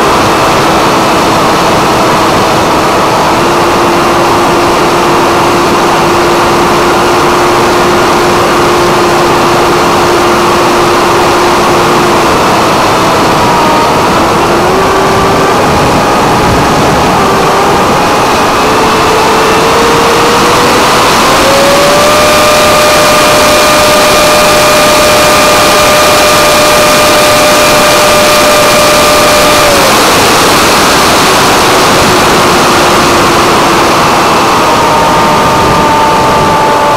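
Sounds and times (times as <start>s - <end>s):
electric motor and propeller whining: 0.0s - 36.9s
wind rush on microphone: 0.0s - 36.9s.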